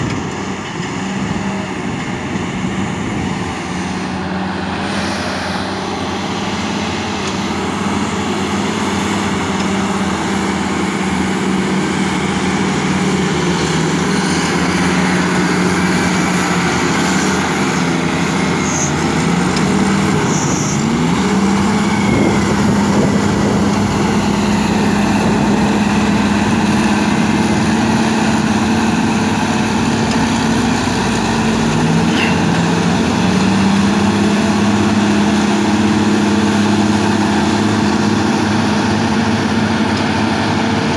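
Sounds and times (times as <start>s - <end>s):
diesel engines running hard: 0.0s - 40.9s.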